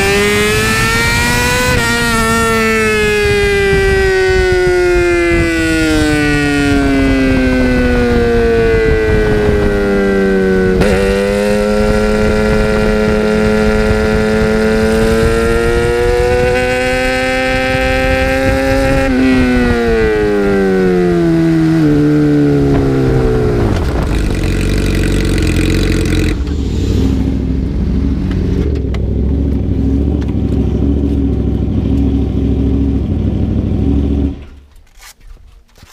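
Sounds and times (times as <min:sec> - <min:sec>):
motorcycle engine revving: 0:00.0 - 0:34.7.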